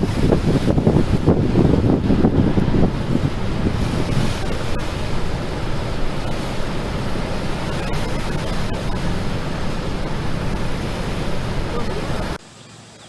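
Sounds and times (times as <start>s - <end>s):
floodwater rushing: 0.0s - 12.4s
wind buffeting microphone: 0.0s - 12.4s.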